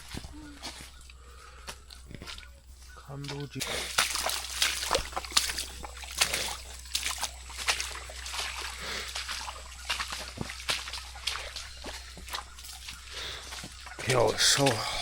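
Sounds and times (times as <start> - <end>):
footsteps through wet undergrowth: 0.0 - 15.0
forest hum: 0.0 - 15.0.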